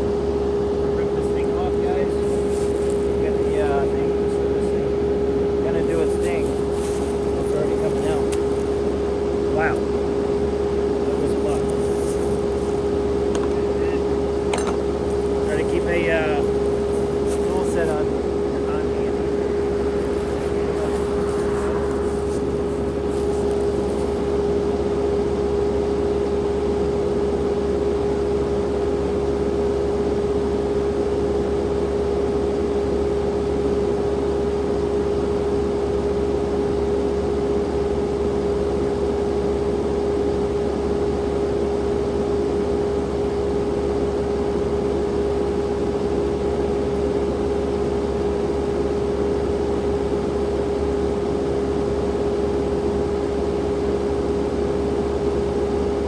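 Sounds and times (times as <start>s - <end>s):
skid steer engine running: 0.0s - 56.0s.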